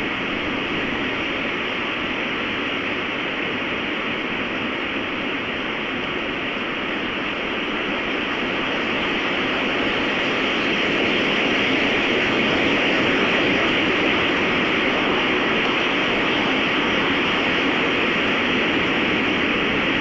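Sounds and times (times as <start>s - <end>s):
strong storm wind blowing: 0.0s - 20.0s.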